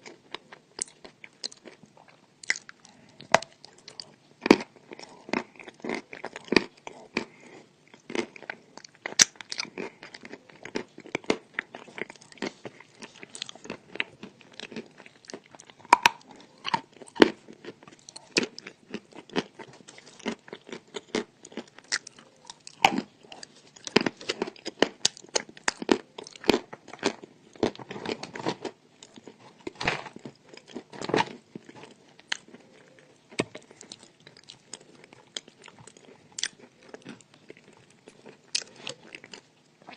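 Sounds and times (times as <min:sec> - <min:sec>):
person chewing chalk: 0:00.0 - 0:28.0, 0:30.3 - 0:39.9.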